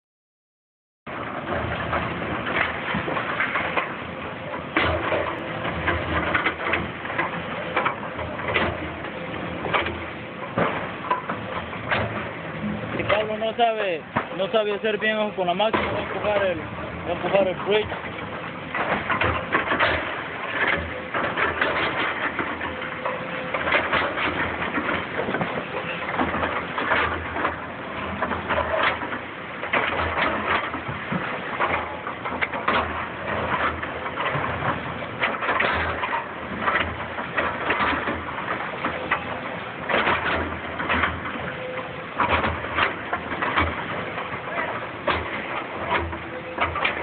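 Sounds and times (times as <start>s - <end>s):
clattering impacts: 1.1s - 47.0s
excavator bucket crunching rubble: 1.1s - 47.0s.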